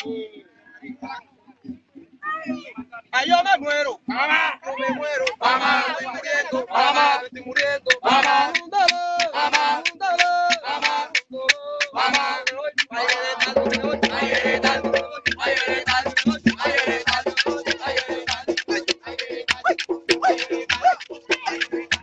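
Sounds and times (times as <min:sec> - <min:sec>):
men singing a chant: 0:03.2 - 0:22.0.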